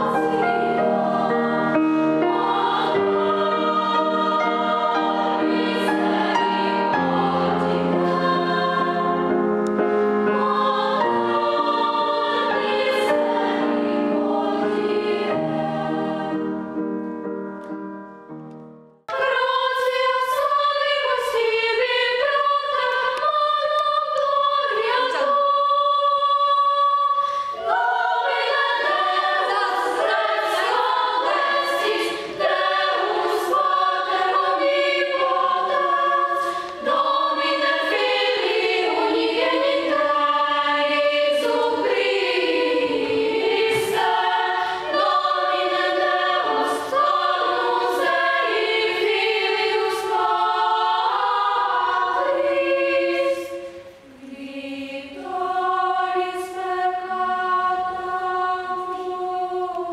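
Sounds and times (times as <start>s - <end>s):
children's choir singing: 0.0s - 17.0s, 19.0s - 59.9s.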